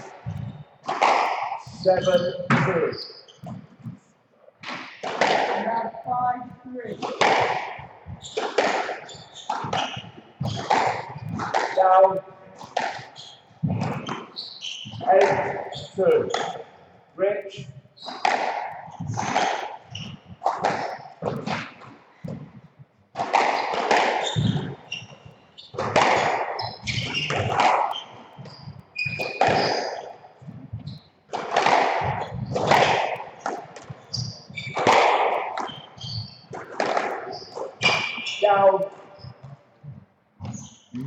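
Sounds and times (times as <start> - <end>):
squash ball hitting rackets and walls: 0.0 - 40.9
shoes squeaking on wooden floor: 0.0 - 41.0.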